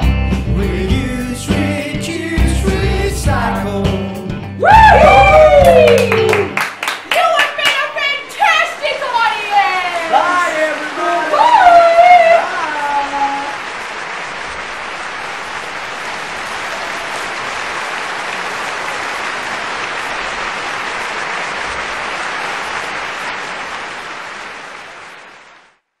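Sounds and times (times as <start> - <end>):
audience applause: 4.6 - 25.8.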